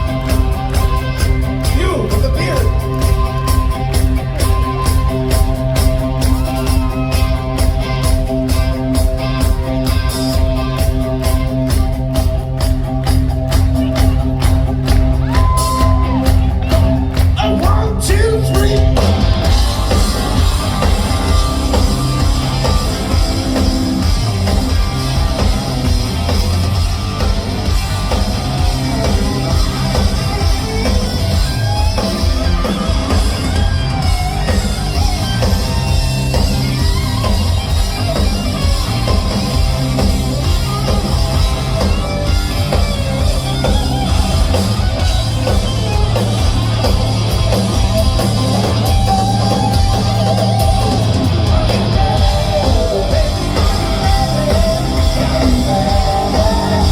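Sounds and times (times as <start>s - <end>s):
bass guitar: 0.0s - 56.9s
drums: 0.0s - 56.9s
electric guitar: 0.0s - 56.9s.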